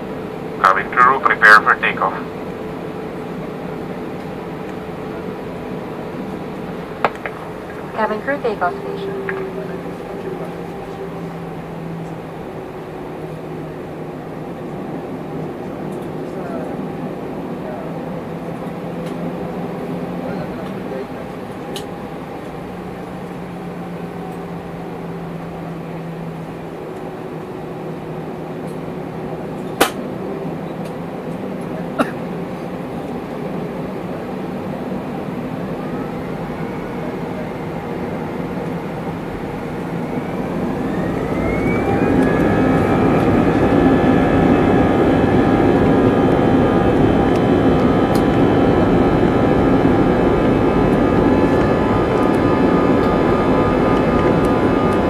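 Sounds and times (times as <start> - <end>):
engine spooling up whine: 0.0 - 31.8, 32.7 - 55.0
jet engines humming: 0.0 - 55.0.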